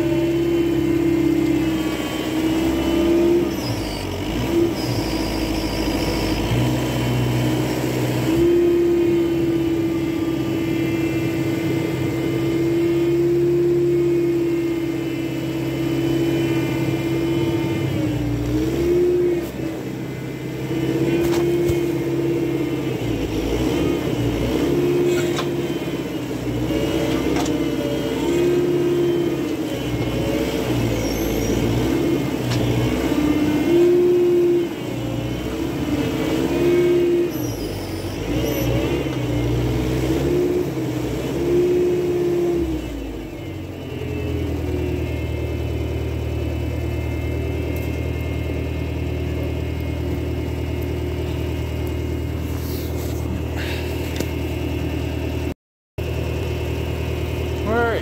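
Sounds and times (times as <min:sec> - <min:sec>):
tractor engine revving: 0:00.0 - 0:58.0.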